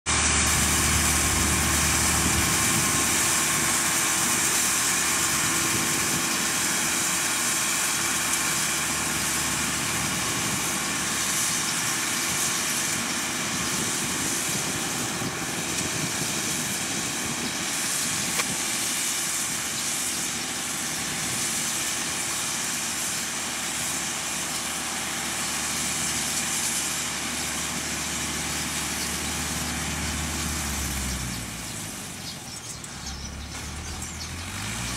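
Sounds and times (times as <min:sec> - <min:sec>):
baler hissing mechanical noise: 0:00.1 - 0:34.9
tractor engine running: 0:00.1 - 0:34.9.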